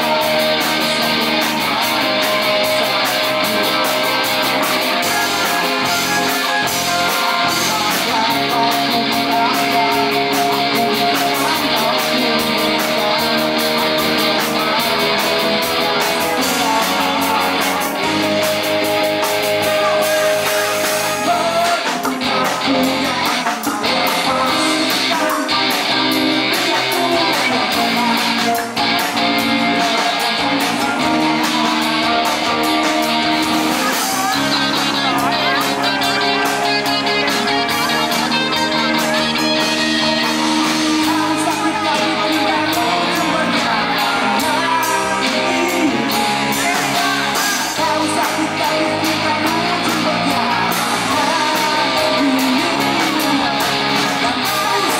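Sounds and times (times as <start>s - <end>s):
live rock band playing: 0.0s - 54.9s
vocals: 0.0s - 54.9s.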